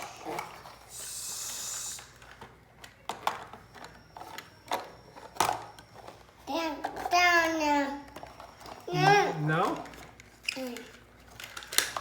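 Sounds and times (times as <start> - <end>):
plastic toys clicking and knocking: 2.0 - 12.0.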